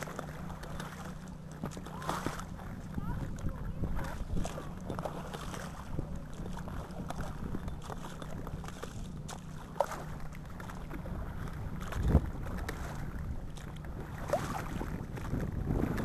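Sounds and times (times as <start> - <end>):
boat motor humming: 0.0 - 16.0
wind on microphone: 1.6 - 16.0.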